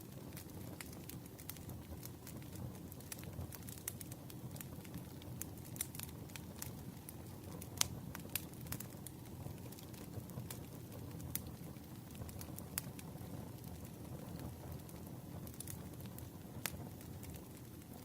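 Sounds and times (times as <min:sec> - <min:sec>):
burning wood crackling: 0:00.0 - 0:18.0.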